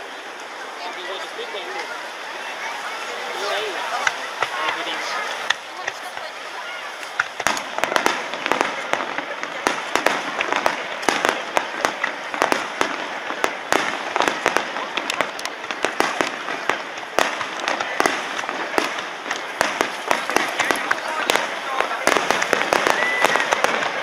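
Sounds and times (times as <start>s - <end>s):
fireworks bursting: 0.0s - 24.0s
noisy wash: 0.0s - 24.0s.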